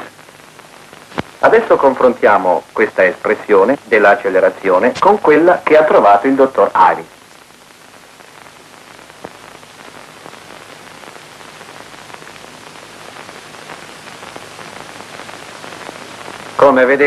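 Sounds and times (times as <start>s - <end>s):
faint crackles and clicks: 0.0s - 17.0s
steady hiss: 0.0s - 17.0s.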